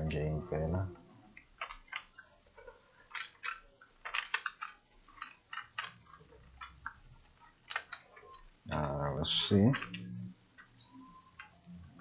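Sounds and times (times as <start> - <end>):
plastic laptop parts clicking: 1.4 - 8.9, 9.7 - 12.0.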